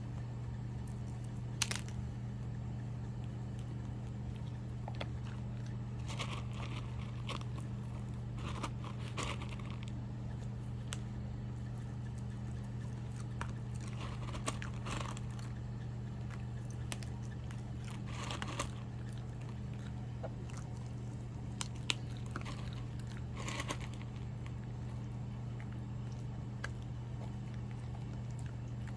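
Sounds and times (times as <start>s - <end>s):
dog chewing and crunching food: 0.0s - 28.9s
low hum: 0.0s - 28.9s.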